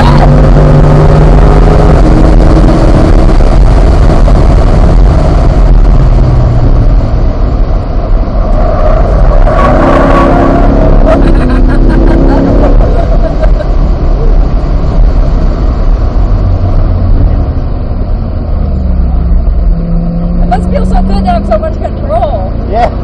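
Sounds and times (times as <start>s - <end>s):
car engine accelerating: 0.0s - 23.0s
wind and road noise: 0.0s - 23.0s.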